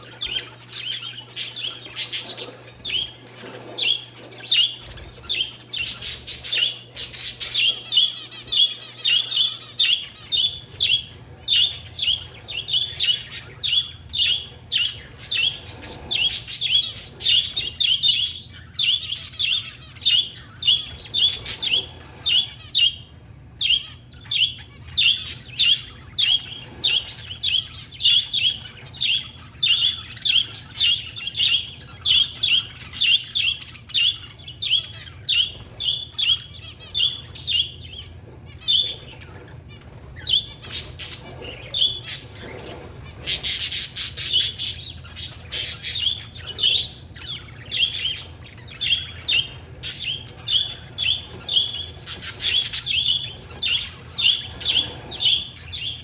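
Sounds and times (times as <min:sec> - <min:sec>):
harsh bird chatter: 0:00.0 - 0:56.0
small birds chirping: 0:00.0 - 0:56.0.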